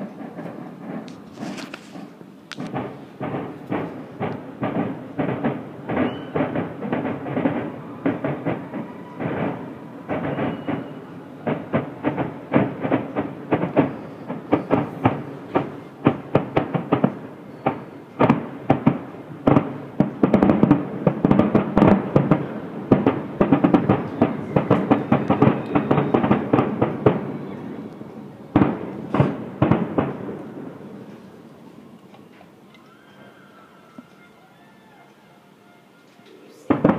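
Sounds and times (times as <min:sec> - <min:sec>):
fireworks shells bursting: 0:00.0 - 0:32.9, 0:36.0 - 0:36.9.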